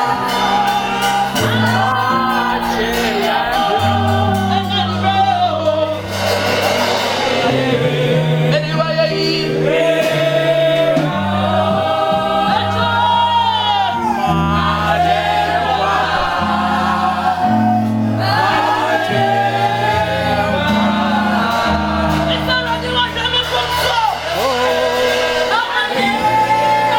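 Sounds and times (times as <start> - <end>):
band playing gospel music: 0.0 - 26.9
bass line: 0.0 - 26.9
group of voices singing: 0.0 - 26.9.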